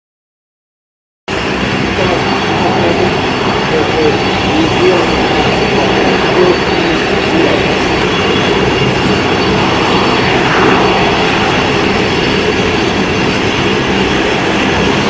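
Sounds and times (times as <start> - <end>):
aircraft rumbling: 1.3 - 15.0.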